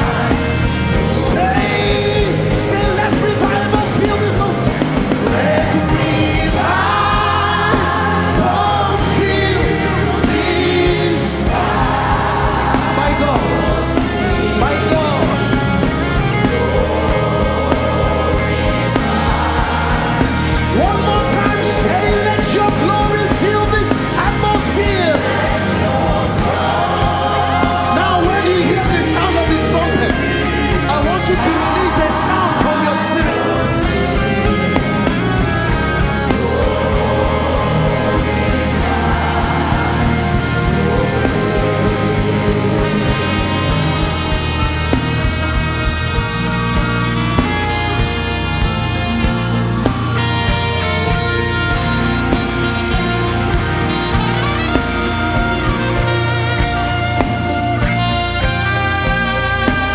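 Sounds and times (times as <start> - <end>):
band playing: 0.0 - 59.9
bass line: 0.0 - 59.9
voices singing: 0.0 - 59.9.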